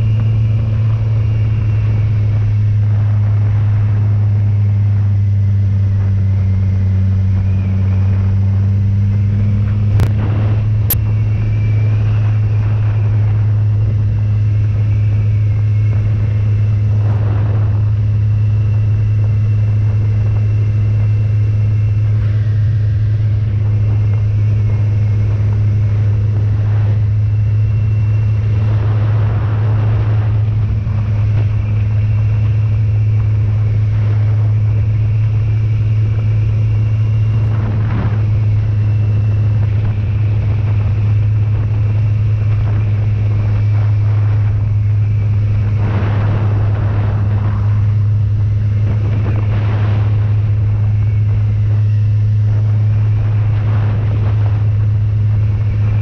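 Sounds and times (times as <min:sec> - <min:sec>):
motorcycle engine cruising: 0:00.0 - 0:56.0
rushing wind noise: 0:00.0 - 0:56.0.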